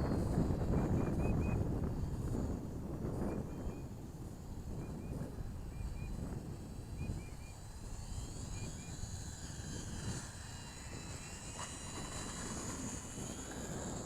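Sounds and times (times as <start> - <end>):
model plane motors whining: 0.0 - 14.0
wind on microphone: 0.0 - 14.0.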